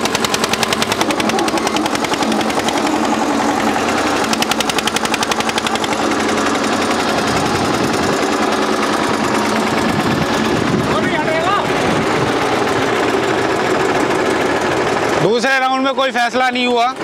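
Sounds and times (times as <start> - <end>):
tractor diesel engines under load: 0.0 - 17.0.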